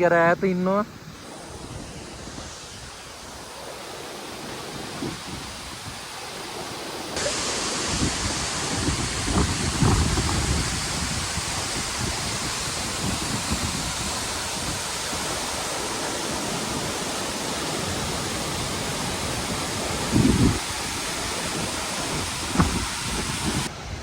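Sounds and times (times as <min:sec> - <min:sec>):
waterfall roaring: 0:00.9 - 0:24.0.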